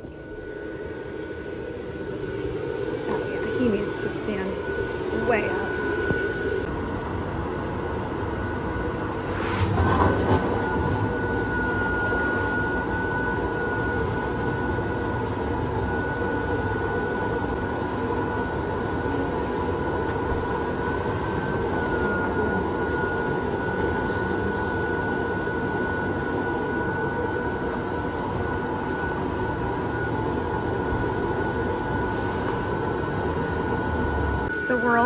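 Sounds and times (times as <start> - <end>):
electric blower fan running: 0.0 - 35.0.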